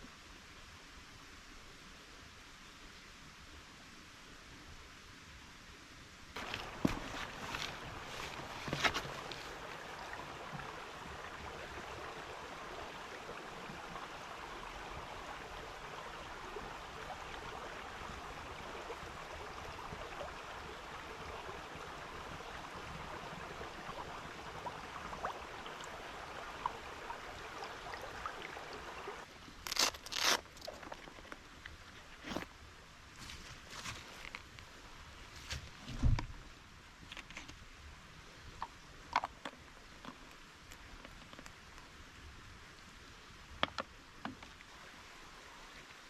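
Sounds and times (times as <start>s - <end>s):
forest background hiss: 0.0s - 46.0s.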